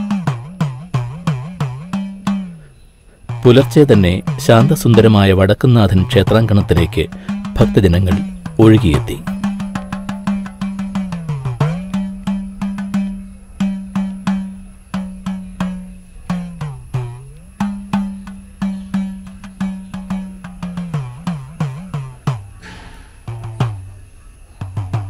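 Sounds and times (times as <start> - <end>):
low pitch-sliding drum tone: 0.0 - 24.0
sharp drum strokes: 0.0 - 24.0.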